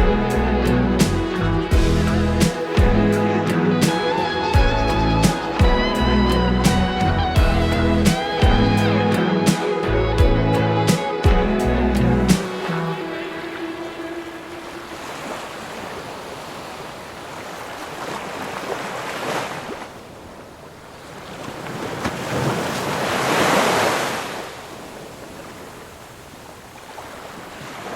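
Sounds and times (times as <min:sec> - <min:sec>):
waves breaking on beach: 0:00.0 - 0:05.9, 0:07.3 - 0:10.3, 0:12.3 - 0:27.9.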